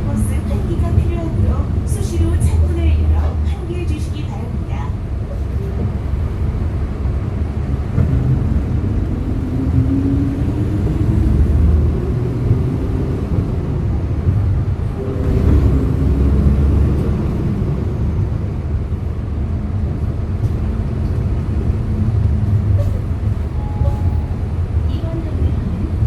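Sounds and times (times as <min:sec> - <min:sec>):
bus engine rumbling: 0:00.0 - 0:26.0.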